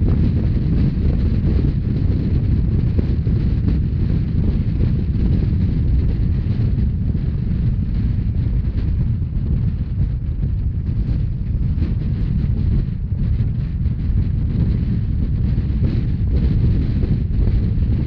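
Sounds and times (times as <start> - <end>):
train running low rumble: 0.0 - 18.0
wind buffeting microphone: 0.0 - 18.0.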